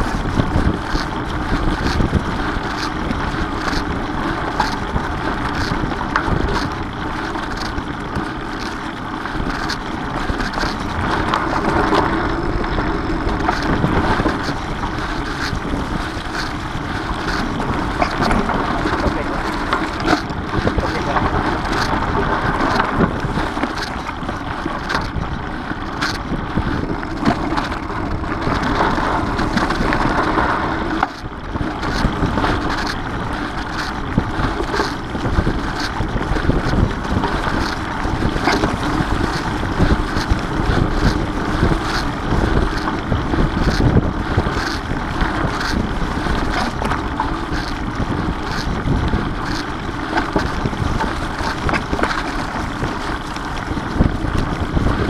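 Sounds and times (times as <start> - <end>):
bike clicks and knocks: 0.0 - 55.0
bike tyre rumble: 0.0 - 55.0
wind buffeting microphone: 0.0 - 55.0.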